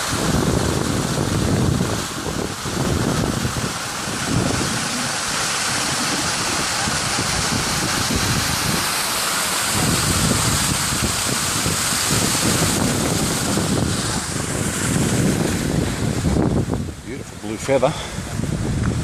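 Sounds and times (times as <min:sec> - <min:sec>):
waterfall splashing into pool: 0:00.0 - 0:19.0
wind buffeting microphone: 0:00.0 - 0:19.0.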